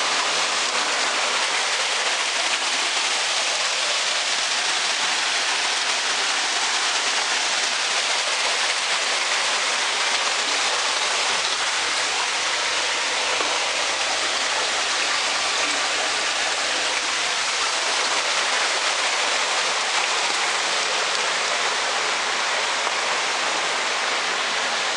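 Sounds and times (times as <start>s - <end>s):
water pouring from pipes: 0.0s - 24.9s
water rushing down rocky channel: 0.0s - 24.9s.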